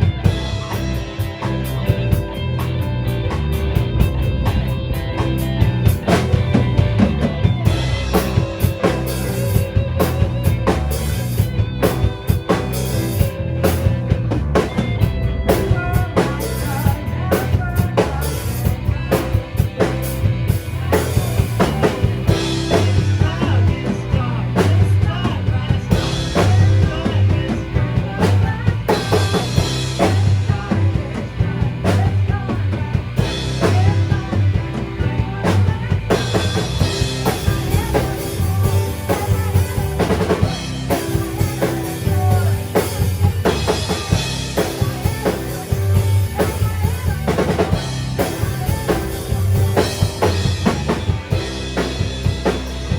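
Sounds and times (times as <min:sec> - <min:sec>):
bass: 0:00.0 - 0:52.9
drum kit beat: 0:00.0 - 0:52.9
electric guitars: 0:00.0 - 0:52.9
keyboards: 0:00.0 - 0:52.9.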